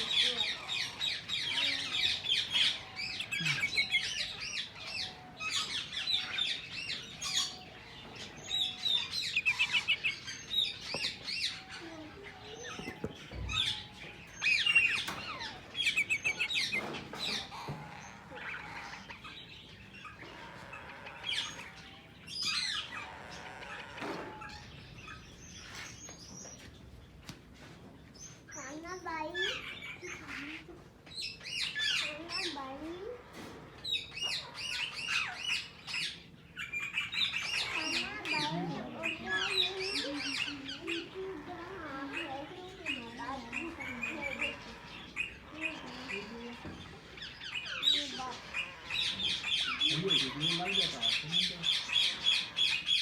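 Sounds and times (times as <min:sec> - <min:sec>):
parakeets chattering: 0:00.0 - 0:27.2, 0:28.0 - 0:53.0.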